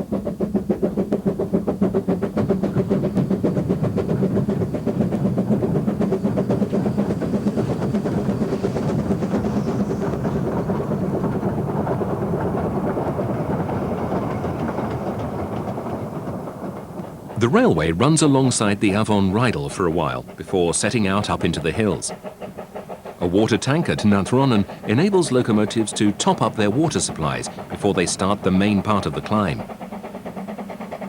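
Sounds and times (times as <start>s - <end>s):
steam locomotive exhaust beating: 0.0s - 31.0s.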